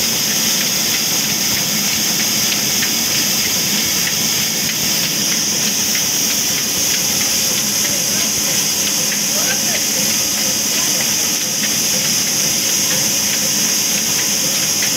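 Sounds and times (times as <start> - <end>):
band saw running idle hiss: 0.0 - 14.9
faint regular ticking: 0.2 - 14.9.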